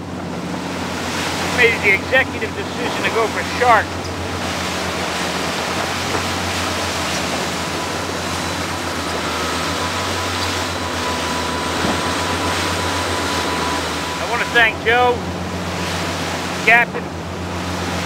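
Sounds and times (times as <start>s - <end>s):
boat engine drone: 0.0s - 18.0s
wind and water rushing: 0.0s - 18.0s.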